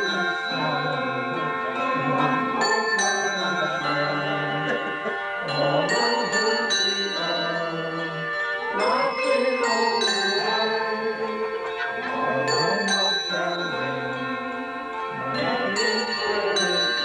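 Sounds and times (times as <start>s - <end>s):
bells rung in a tune: 0.0s - 17.0s.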